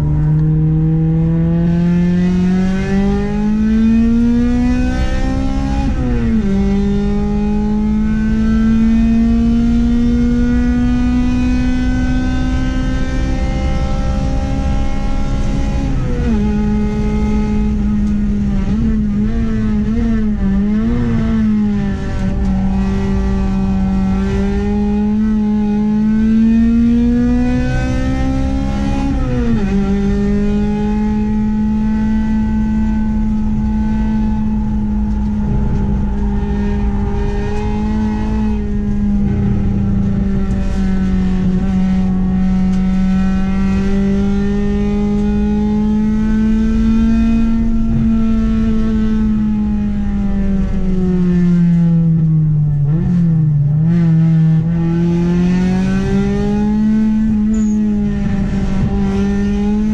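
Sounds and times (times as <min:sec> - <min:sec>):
car engine revving high: 0:00.0 - 0:59.9
road and wind noise: 0:00.0 - 0:59.9.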